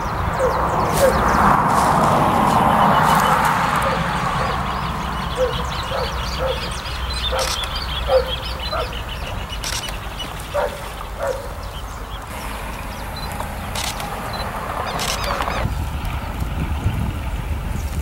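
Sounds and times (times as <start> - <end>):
small birds chirping faintly: 0.0 - 16.9
distant diesel locomotive rumble: 0.0 - 18.0.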